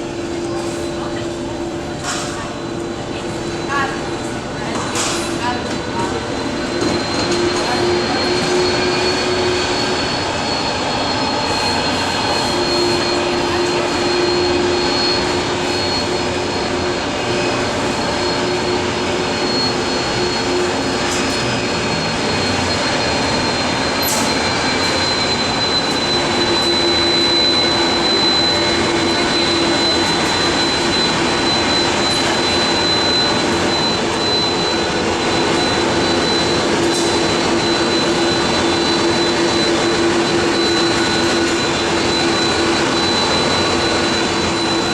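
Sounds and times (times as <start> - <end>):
high steady engine whine: 0.0 - 44.9
jet engines running: 0.0 - 44.9.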